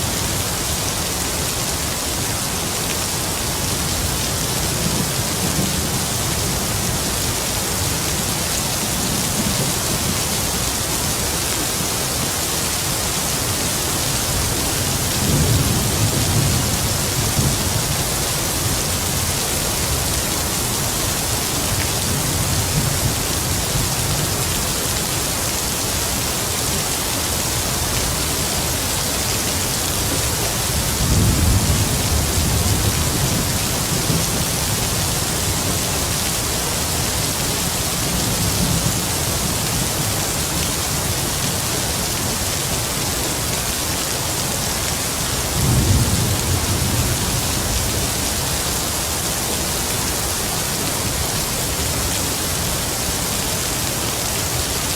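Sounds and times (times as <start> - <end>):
heavy rain hiss: 0.0 - 54.9.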